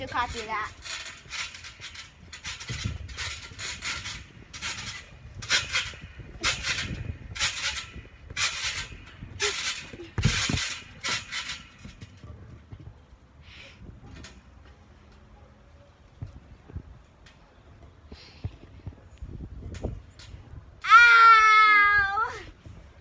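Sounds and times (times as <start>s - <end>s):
trampoline springs creaking: 0.0s - 23.0s.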